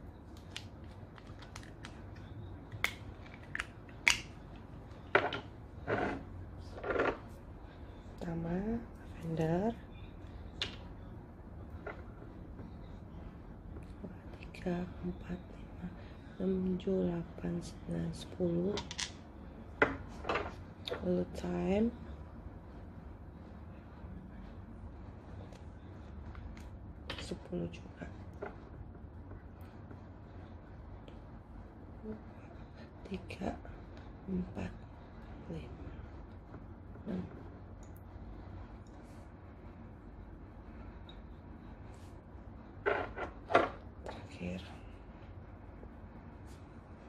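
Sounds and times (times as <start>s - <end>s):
faint room noise: 0.0s - 47.0s
low background hum: 0.0s - 47.0s.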